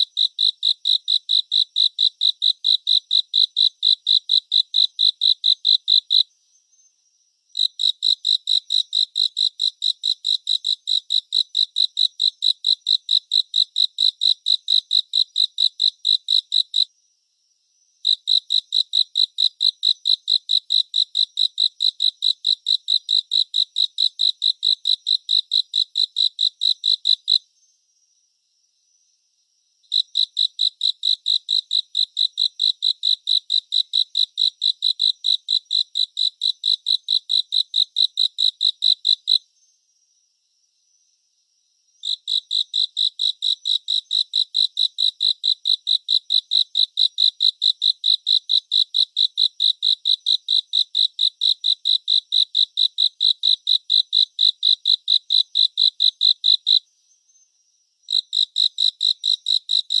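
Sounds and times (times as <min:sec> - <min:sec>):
cricket chirping: 0:00.0 - 1:00.0.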